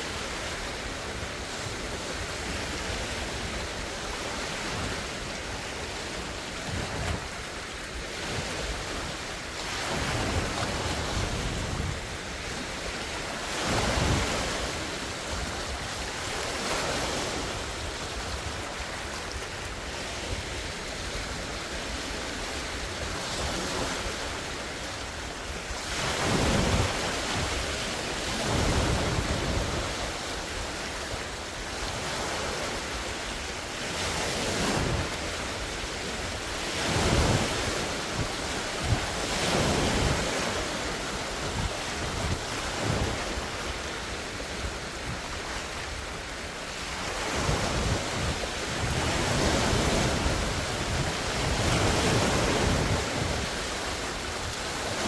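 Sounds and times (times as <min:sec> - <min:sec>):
lake waves breaking and splashing: 0:00.0 - 0:55.0
wind buffeting microphone: 0:00.6 - 0:33.0, 0:33.9 - 0:55.0.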